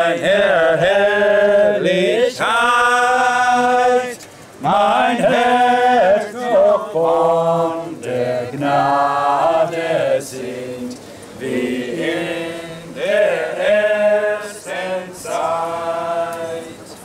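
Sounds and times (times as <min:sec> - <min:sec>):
group singing a hymn in unison: 0:00.0 - 0:17.0.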